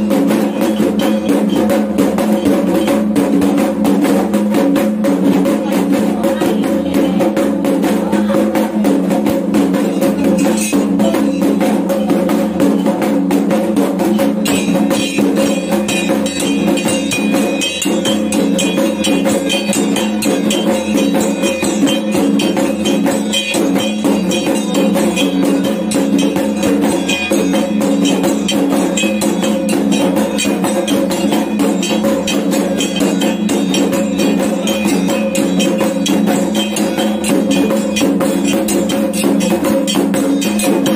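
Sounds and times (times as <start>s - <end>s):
drums beaten rapidly: 0.0s - 40.9s
higher ringing layer: 0.0s - 40.9s.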